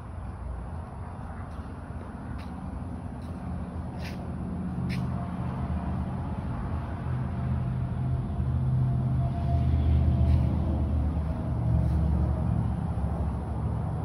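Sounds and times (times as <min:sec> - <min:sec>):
vehicle engine hum and road noise: 0:00.0 - 0:14.0.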